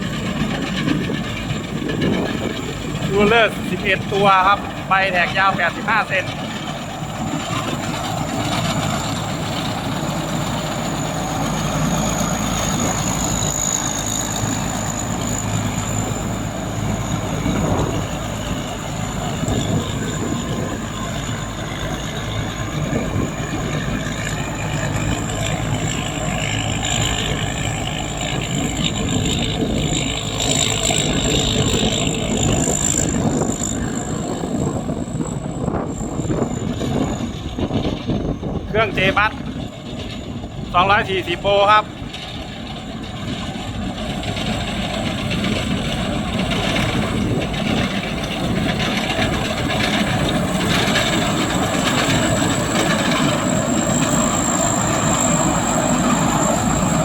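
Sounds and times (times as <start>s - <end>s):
combine harvester diesel engine running: 0.0s - 57.0s
high thin whine: 1.3s - 57.0s.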